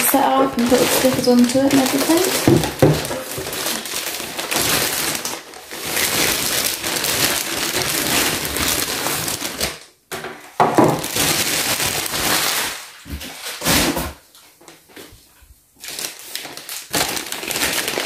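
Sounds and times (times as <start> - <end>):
plastic bag crinkling: 0.0 - 10.0, 10.6 - 13.7, 15.8 - 18.0.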